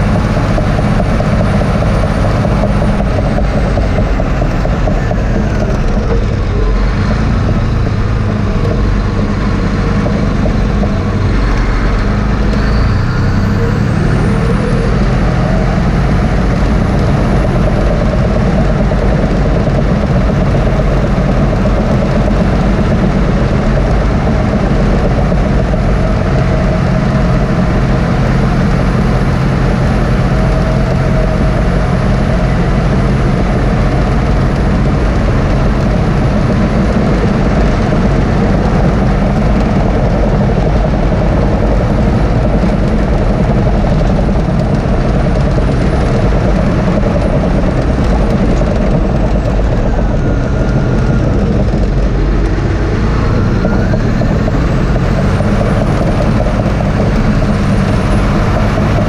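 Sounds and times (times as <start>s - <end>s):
dozer diesel engine under load: 0.0s - 59.0s.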